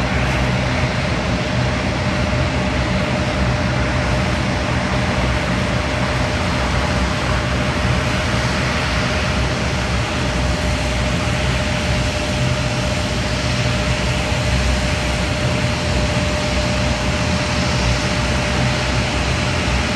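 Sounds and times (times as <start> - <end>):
jet engine whine and rumble: 0.0 - 19.9.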